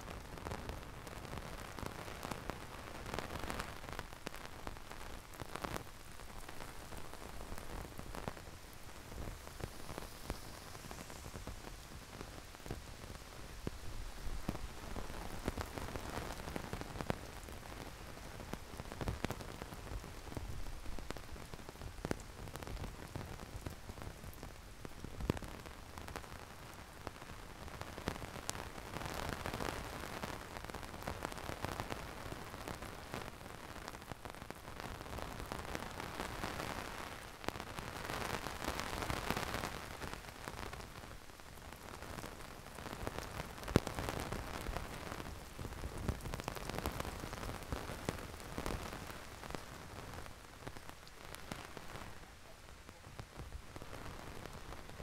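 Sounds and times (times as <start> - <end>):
heavy rain hissing: 0.1 - 24.8, 34.6 - 55.0.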